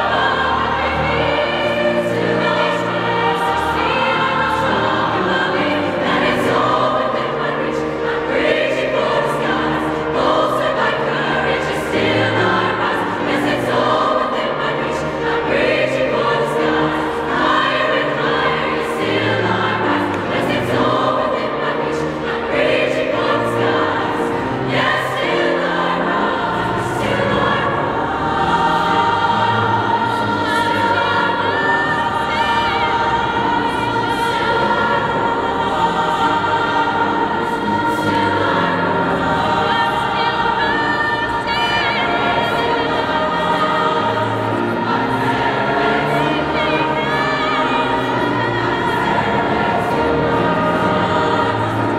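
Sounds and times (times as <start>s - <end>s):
girls' choir singing in harmony: 0.0s - 51.9s.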